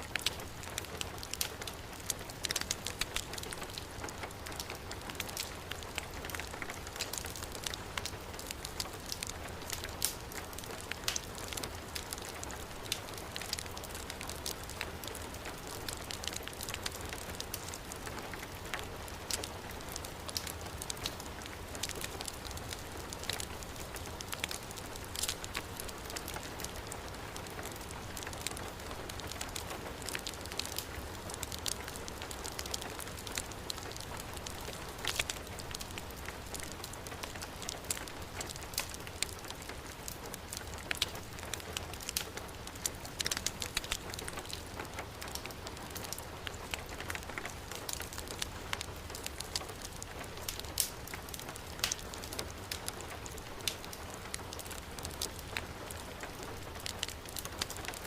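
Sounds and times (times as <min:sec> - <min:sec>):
heavy rain: 0:00.0 - 0:58.0
wood fire crackling: 0:00.0 - 0:58.0.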